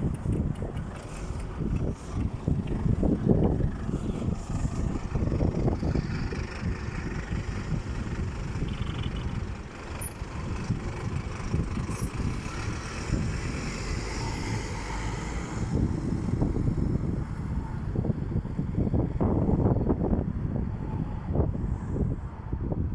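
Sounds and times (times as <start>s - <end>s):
bus engine rumble: 0.0s - 22.9s.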